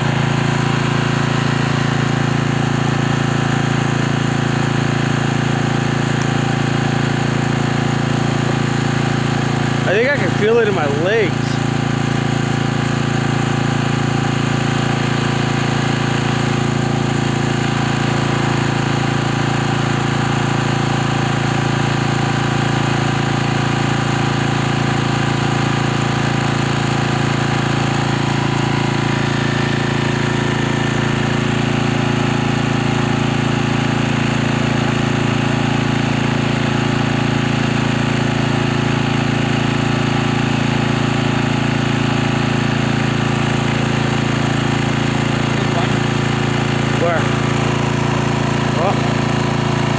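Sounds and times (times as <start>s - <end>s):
portable generator engine running: 0.0s - 49.9s.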